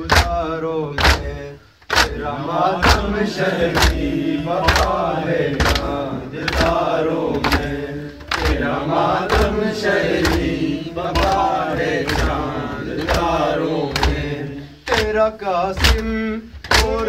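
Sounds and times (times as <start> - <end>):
hands beating chests: 0.0 - 17.0
men chanting: 0.0 - 17.0.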